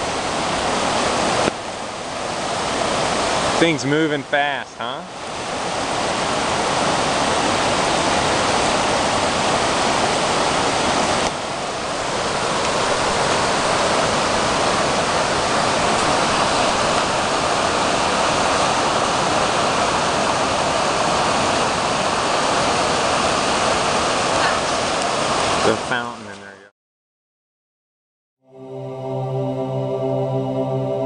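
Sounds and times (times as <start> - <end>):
floodwater rushing: 0.0 - 26.6.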